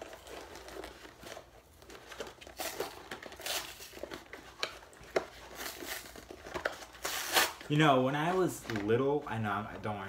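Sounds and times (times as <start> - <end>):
blister packaging crinkling: 0.0 - 9.2.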